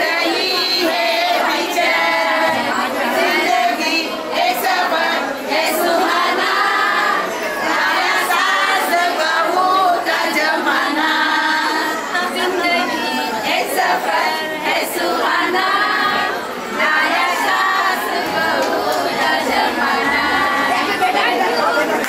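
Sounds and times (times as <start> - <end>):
crowd noise: 0.0 - 22.0
group singing together: 0.0 - 22.0.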